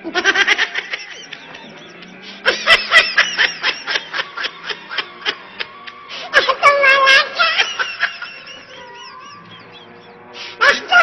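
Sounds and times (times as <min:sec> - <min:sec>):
person laughing: 0:00.0 - 0:11.0.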